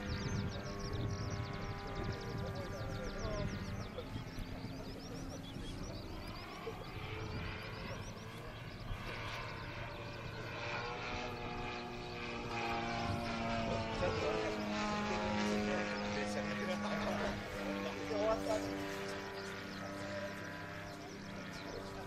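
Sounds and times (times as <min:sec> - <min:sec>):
model airplane motor and propeller: 0:00.0 - 0:22.0.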